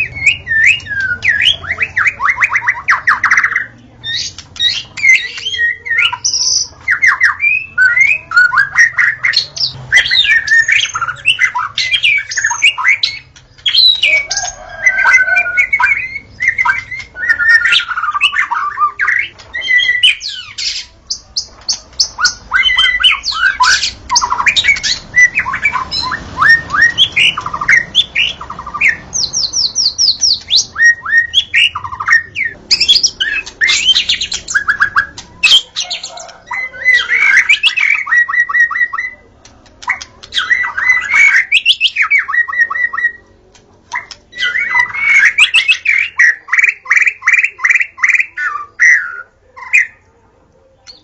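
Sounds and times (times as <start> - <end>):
songbird singing: 0.0 - 50.1.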